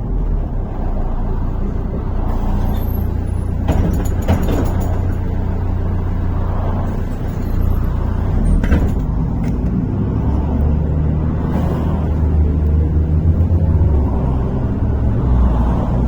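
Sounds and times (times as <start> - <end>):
bus diesel engine rumble: 0.0 - 16.0.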